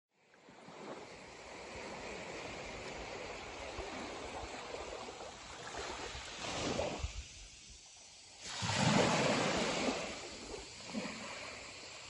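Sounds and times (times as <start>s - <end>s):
small waves lapping on shore: 0.2s - 12.0s.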